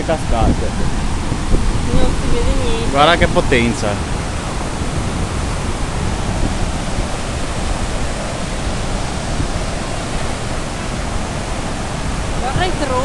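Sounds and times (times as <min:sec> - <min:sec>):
rushing white water: 0:00.0 - 0:13.0.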